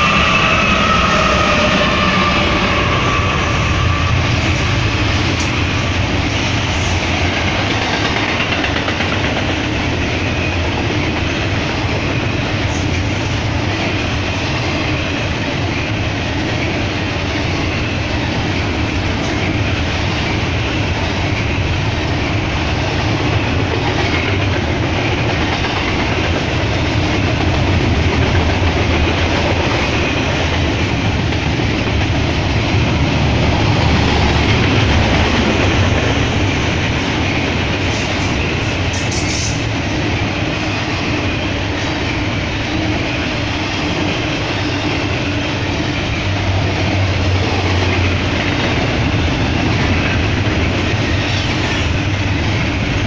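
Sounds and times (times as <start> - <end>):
freight train wheels rumbling on rail: 0.0 - 53.0.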